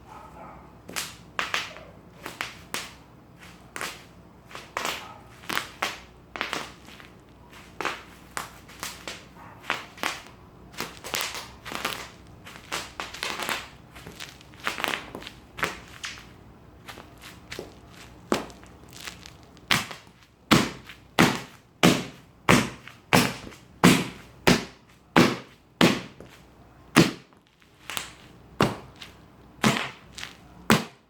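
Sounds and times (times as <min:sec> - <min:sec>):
bubble wrap popping: 0:04.6 - 0:26.3, 0:27.0 - 0:31.0.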